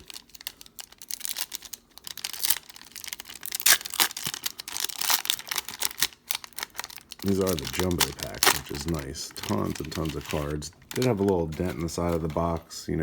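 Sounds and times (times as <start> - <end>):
wrapper being torn and crinkled: 0.0 - 12.6.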